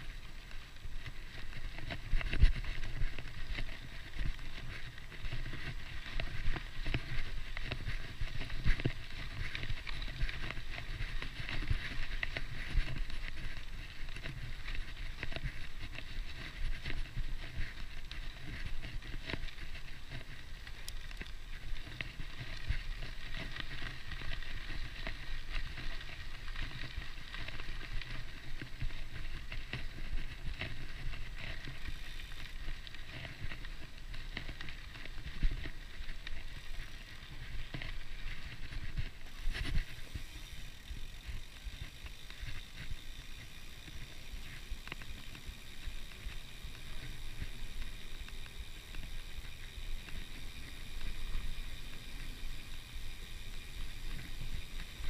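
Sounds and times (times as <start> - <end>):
bike hub ticking buzz: 0.0 - 55.0
bike rattling over bumps: 0.0 - 55.0
bike tyres crunching on gravel: 0.0 - 55.0.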